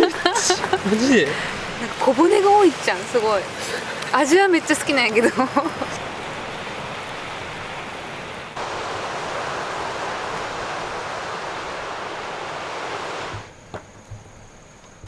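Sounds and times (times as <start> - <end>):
surf washing on shore: 0.0 - 13.6.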